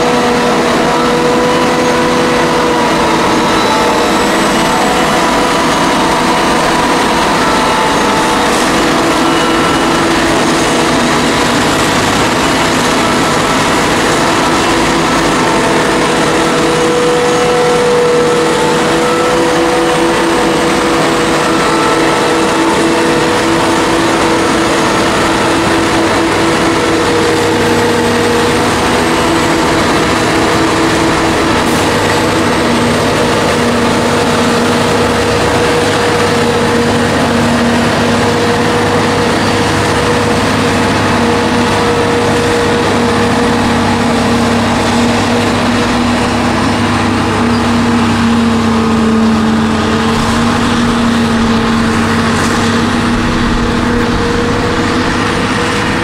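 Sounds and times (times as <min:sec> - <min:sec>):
machinery engines under load: 0:00.0 - 0:56.0
steady machine whine: 0:00.0 - 0:56.0.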